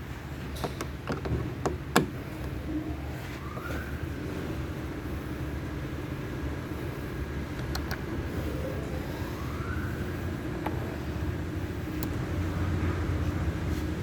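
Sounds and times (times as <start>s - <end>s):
vehicle engine rumbling: 0.3s - 14.0s.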